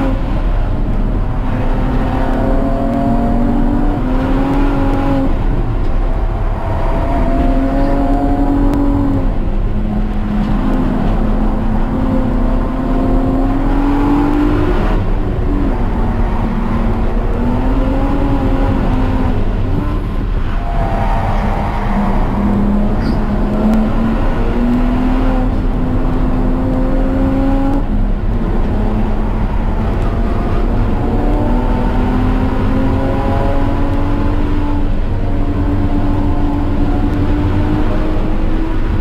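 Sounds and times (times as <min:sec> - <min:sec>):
car engine revving: 0:00.0 - 0:39.0
wind and road noise: 0:00.0 - 0:39.0.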